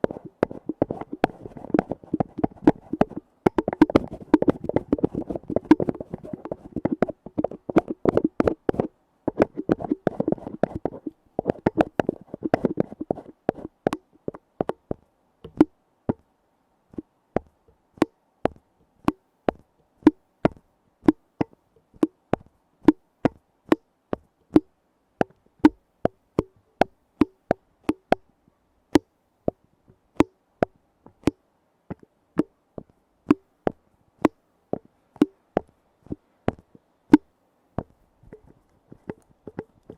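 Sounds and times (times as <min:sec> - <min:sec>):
fingers tapping on a lid: 0:00.0 - 0:16.2, 0:17.4 - 0:28.2, 0:30.2 - 0:32.5, 0:34.2 - 0:39.9.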